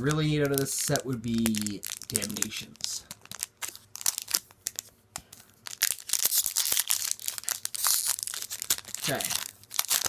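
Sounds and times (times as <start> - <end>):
plastic wrapper tearing and crinkling: 0.1 - 4.9, 5.6 - 10.0.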